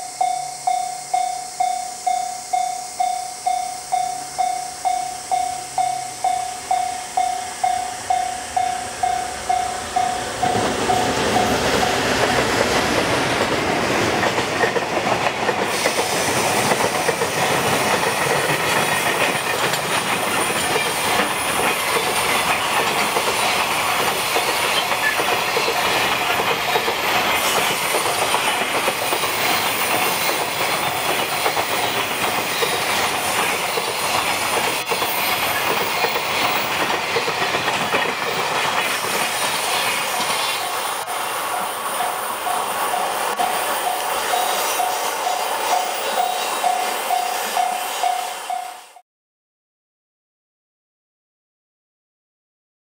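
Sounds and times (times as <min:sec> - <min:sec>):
level-crossing warning bell: 0:00.0 - 0:12.6, 0:17.6 - 0:49.0
train wagons rumbling on rails: 0:03.3 - 0:49.0.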